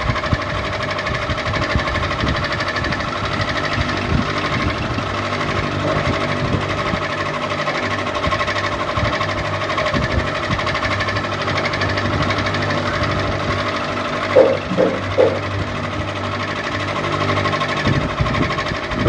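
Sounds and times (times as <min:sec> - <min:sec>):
ceiling fan humming and rattling: 0:00.0 - 0:19.0.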